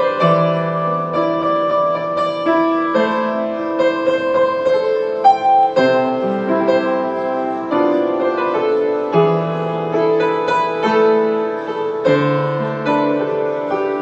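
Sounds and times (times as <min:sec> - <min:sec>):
slow upright piano: 0:00.0 - 0:14.0.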